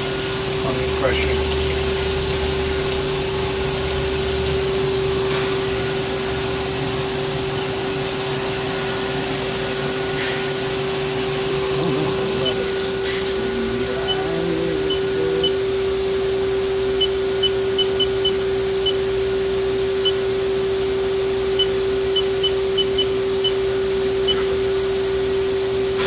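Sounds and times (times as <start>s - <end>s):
lathe whine and hiss: 0.0s - 26.0s.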